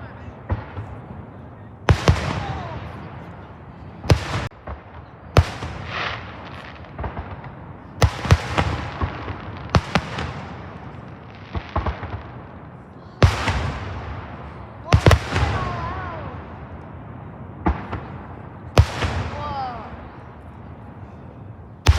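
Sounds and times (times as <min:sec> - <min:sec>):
fireworks bangs with crackle: 0:00.0 - 0:20.9.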